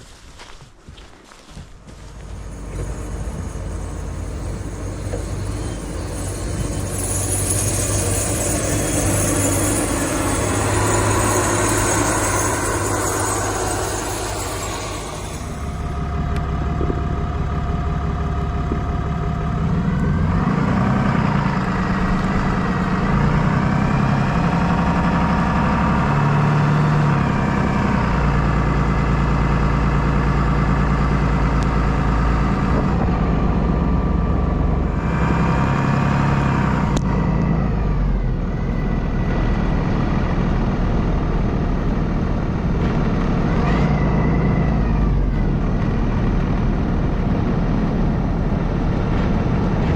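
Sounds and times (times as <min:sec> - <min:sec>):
truck engine revving while driving: 0:02.0 - 0:49.9.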